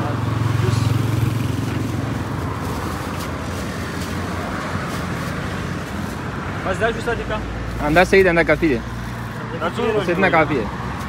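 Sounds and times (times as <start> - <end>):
steady road noise: 0.0 - 11.0
vehicle engine humming close: 0.0 - 11.0.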